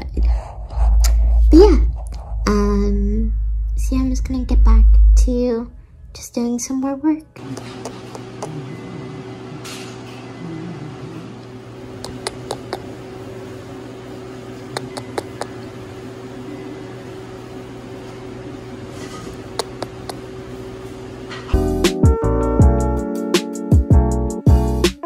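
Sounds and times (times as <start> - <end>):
steady low hum: 0.0 - 21.8.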